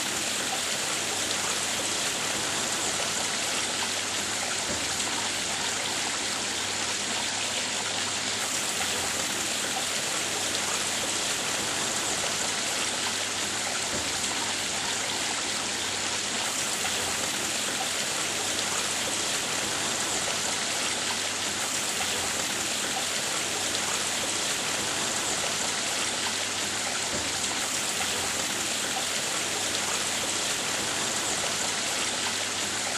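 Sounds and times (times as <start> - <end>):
pond waterfall splashing: 0.0 - 32.9.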